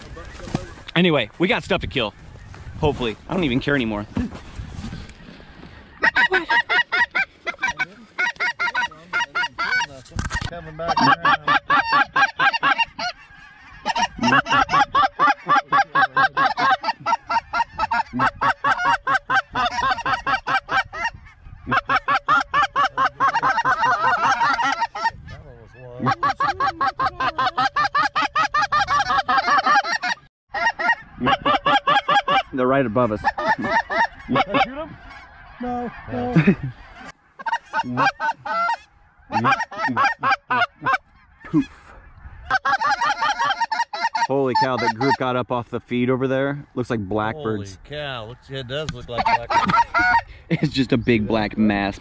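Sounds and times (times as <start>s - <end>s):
geese honking: 0.0s - 4.1s, 5.0s - 52.0s.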